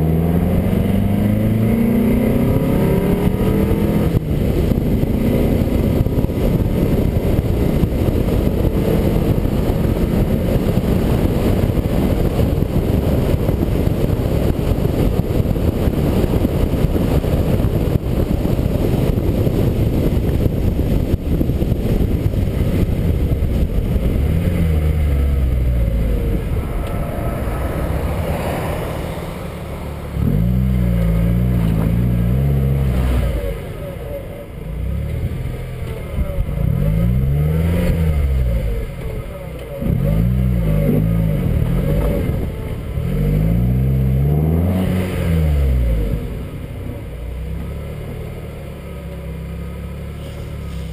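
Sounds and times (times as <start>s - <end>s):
car engine at road speed: 0.0s - 50.9s
wind rumble on microphone: 0.0s - 50.9s.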